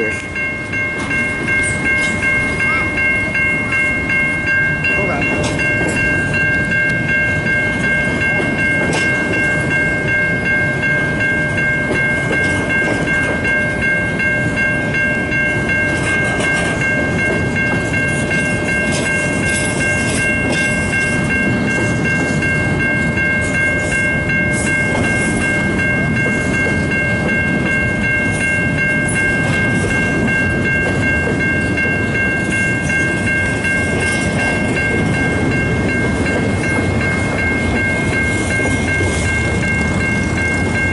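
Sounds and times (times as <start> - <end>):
freight train rumbling: 0.0 - 40.9
high-pitched ringing notes: 0.0 - 40.9.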